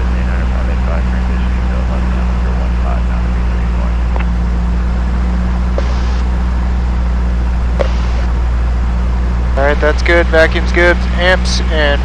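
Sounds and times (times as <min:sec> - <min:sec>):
plane engine and propeller running: 0:00.0 - 0:12.0.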